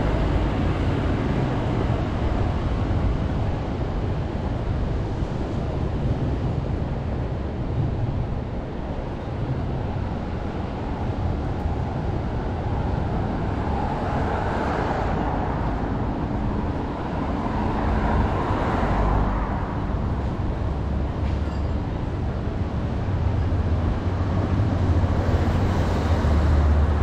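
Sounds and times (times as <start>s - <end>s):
cars passing: 0.0s - 27.0s
traffic rumble: 0.0s - 27.0s.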